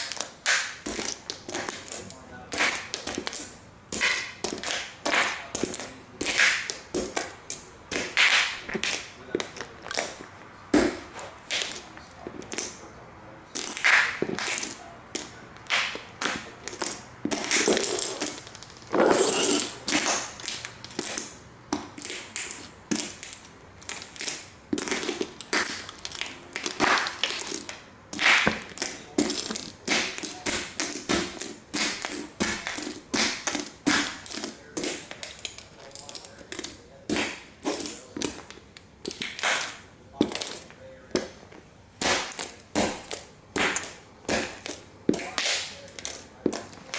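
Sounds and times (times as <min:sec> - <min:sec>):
toy cars crunching underfoot: 0:00.0 - 0:41.4, 0:42.0 - 0:46.9.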